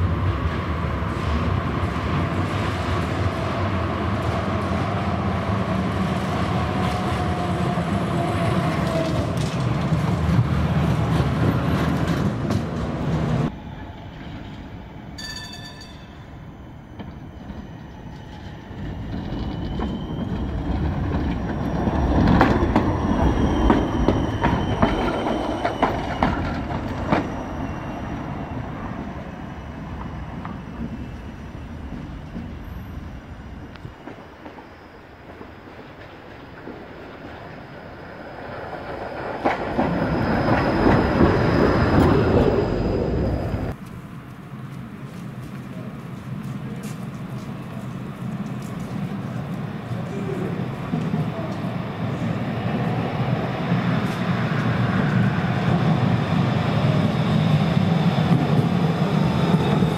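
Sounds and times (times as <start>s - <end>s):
tram wheels clicking over rail joints: 0.0s - 13.5s, 17.0s - 52.2s
electric tram rolling: 0.0s - 59.9s.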